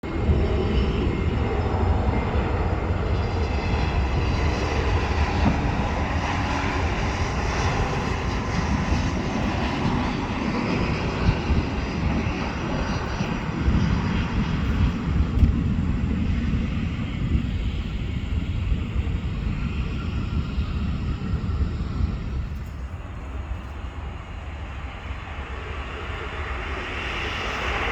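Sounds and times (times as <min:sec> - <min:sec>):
faint jet whine: 0:00.0 - 0:27.9
jet engines roaring: 0:00.0 - 0:27.9.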